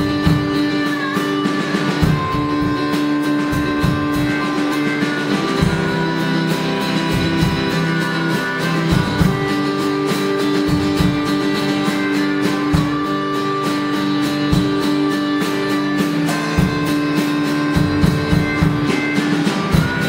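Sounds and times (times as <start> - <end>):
amplified harmonica: 0.0 - 20.0
drums keeping a steady beat: 0.0 - 20.0
electric guitar: 0.0 - 20.0.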